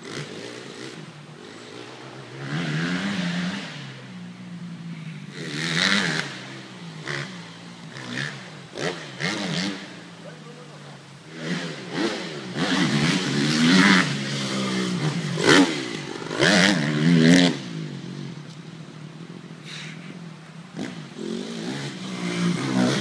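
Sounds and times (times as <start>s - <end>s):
dirt bike engine revving: 0.0s - 18.4s, 20.7s - 23.0s.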